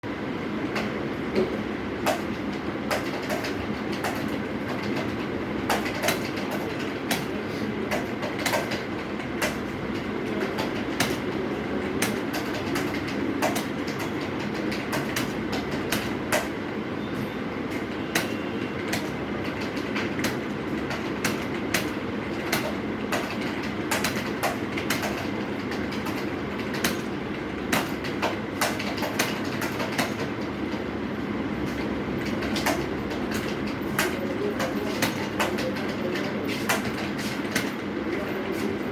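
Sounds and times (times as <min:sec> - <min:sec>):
computer keyboard typing: 0:00.8 - 0:16.6, 0:17.7 - 0:30.9, 0:31.7 - 0:38.9.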